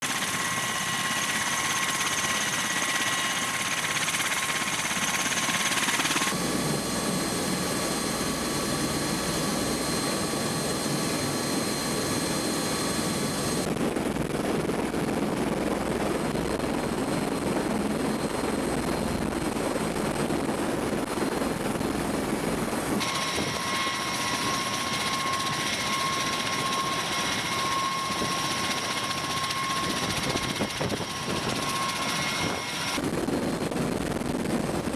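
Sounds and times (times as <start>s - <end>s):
helicopter turbine and rotor: 0.0s - 34.9s.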